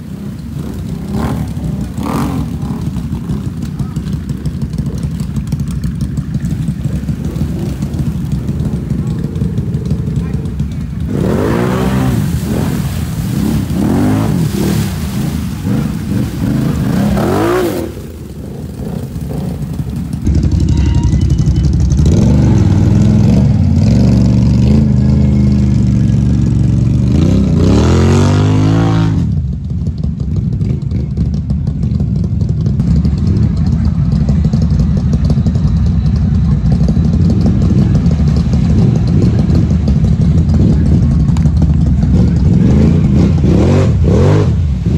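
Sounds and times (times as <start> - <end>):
atv engines revving: 0.0 - 44.9
vehicle churning through mud water: 0.0 - 44.9.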